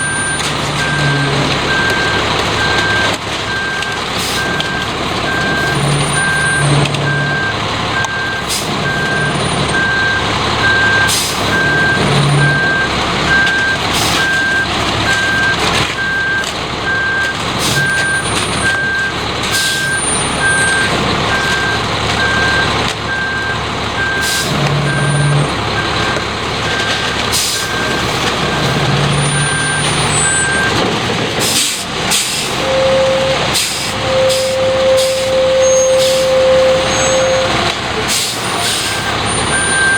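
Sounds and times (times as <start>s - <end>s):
reversing alarm beeping: 0.0s - 30.8s, 32.6s - 37.7s, 38.4s - 39.9s
concrete mixer truck running: 0.0s - 39.9s.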